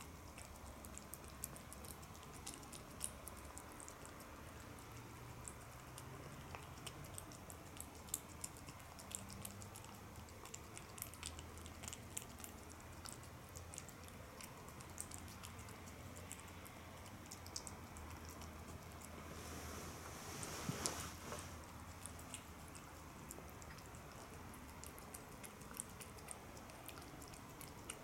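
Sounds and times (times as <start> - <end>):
cat chewing and licking: 0.0 - 28.0
faint low hum: 0.0 - 28.0.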